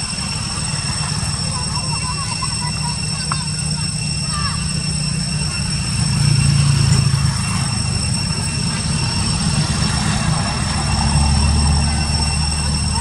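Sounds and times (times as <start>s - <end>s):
engine rumble: 0.0s - 13.0s
high-pitched whine: 0.0s - 13.0s.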